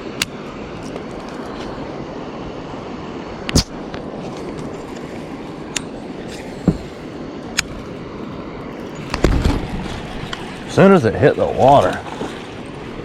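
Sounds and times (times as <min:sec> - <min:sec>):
rushing outdoor noise: 0:00.0 - 0:13.0.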